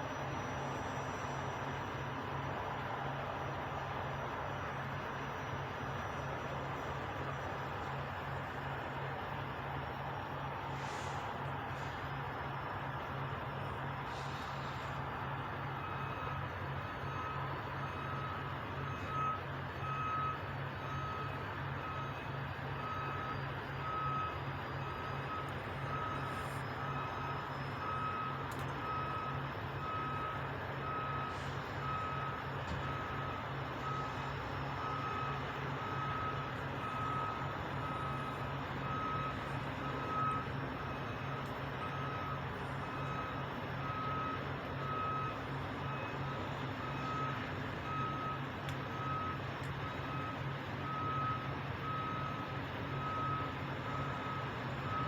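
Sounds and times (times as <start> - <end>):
reversing alarm beeping: 0.0 - 55.0
truck engine running: 0.0 - 55.0.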